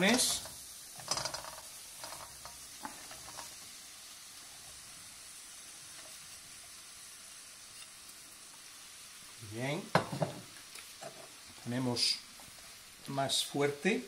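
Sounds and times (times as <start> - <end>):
garlic sizzling in hot oil: 0.0 - 14.0.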